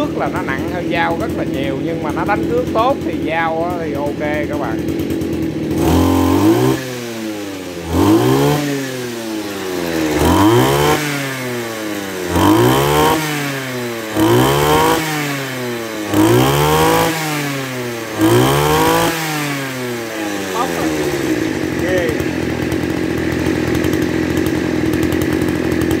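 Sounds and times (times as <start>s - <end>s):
brush cutter engine revving: 0.0s - 26.0s.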